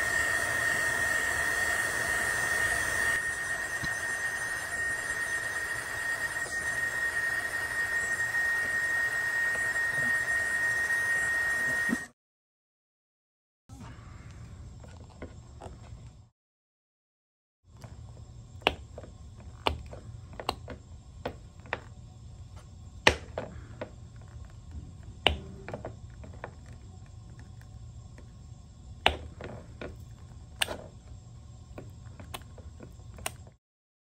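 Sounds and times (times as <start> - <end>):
steady low hum: 0.0 - 12.0, 17.7 - 33.6.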